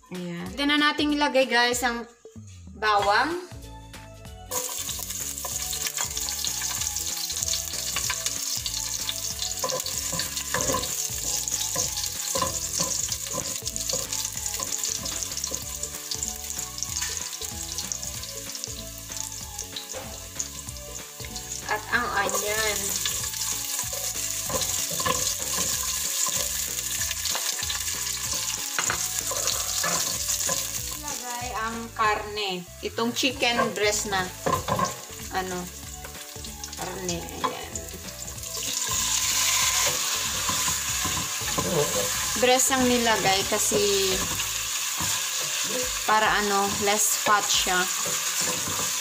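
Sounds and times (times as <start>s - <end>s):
garlic and onion sizzling in oil: 4.3s - 49.0s.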